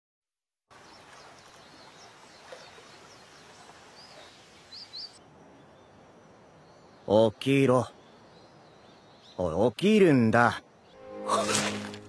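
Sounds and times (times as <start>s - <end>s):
small birds chirping: 0.7s - 11.1s
steady outdoor hiss: 0.7s - 12.0s.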